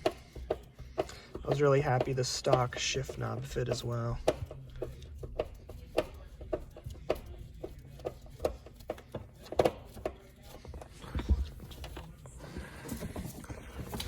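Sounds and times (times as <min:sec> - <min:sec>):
parts clicking and knocking: 0:00.0 - 0:14.0.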